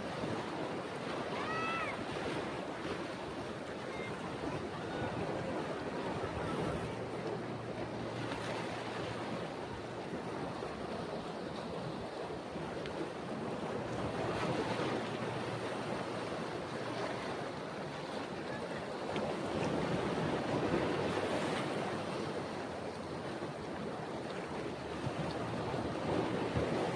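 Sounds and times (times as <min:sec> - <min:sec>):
ocean surf washing onto beach: 0:00.0 - 0:26.9.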